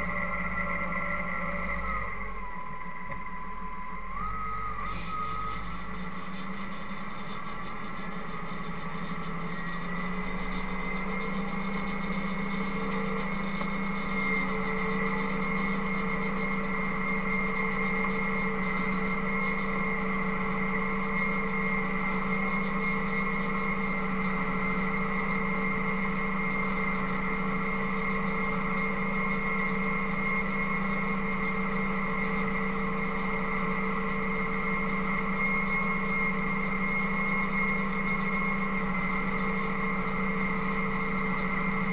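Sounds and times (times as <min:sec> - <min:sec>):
bale processor hum and whine: 0:00.0 - 0:41.9.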